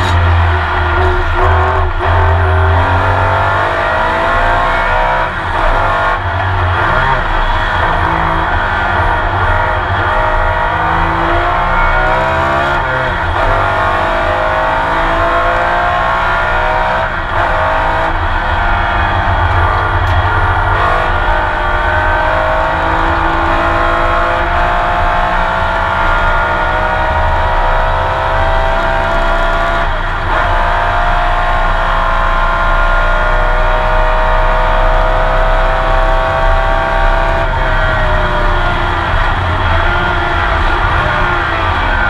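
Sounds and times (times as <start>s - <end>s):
racing engine at full throttle: 0.0s - 42.0s.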